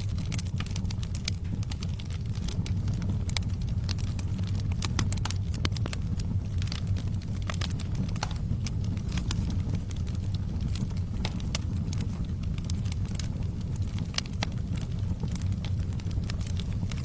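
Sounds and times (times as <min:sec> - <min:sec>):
log fire crackling and popping: 0:00.0 - 0:17.0.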